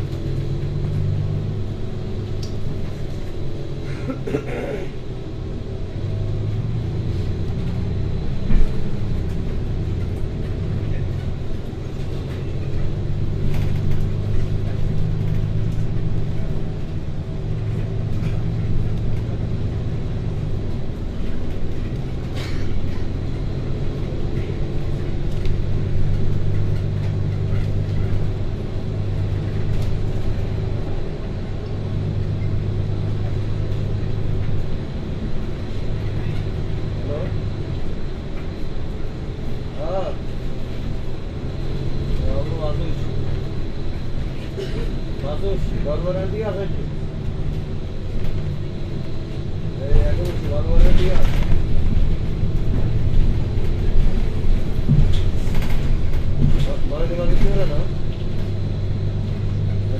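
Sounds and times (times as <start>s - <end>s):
vehicle engine and road drone: 0.0s - 59.9s.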